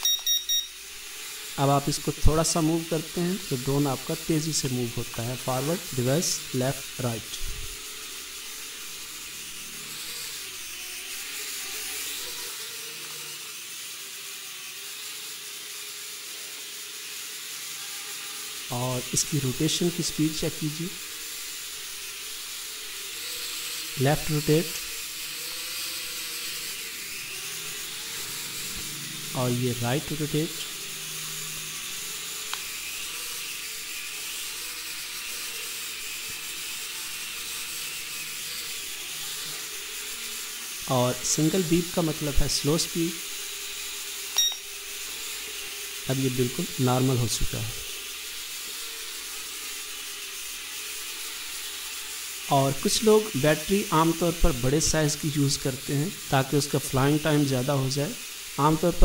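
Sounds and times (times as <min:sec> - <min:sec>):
toy drone propellers whirring: 0:00.0 - 0:59.0.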